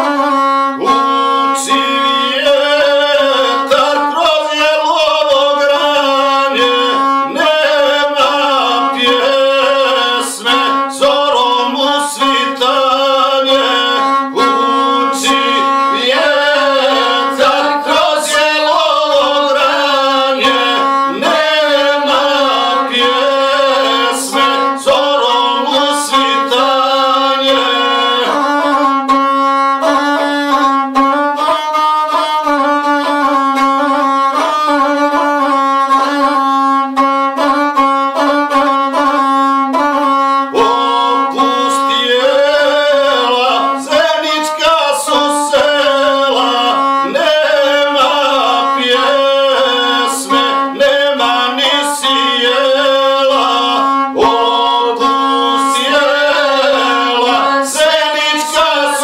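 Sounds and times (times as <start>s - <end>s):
bowed one-string fiddle melody: 0.0s - 59.0s
man singing: 0.0s - 59.0s.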